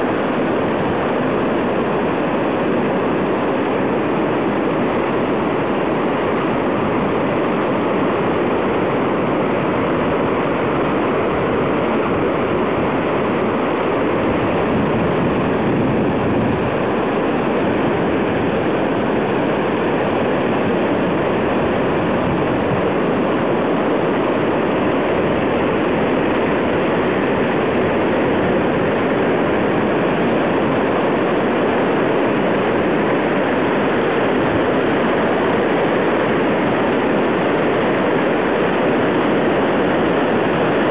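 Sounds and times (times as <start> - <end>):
whitewater roaring through gorge: 0.0 - 40.9.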